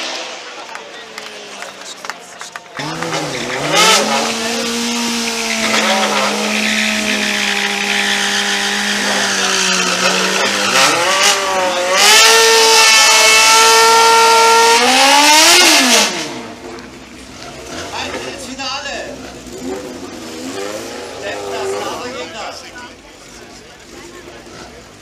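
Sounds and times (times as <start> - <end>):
hissing tyre noise: 0.0 - 25.0
motorcycle engine revving: 2.7 - 25.0.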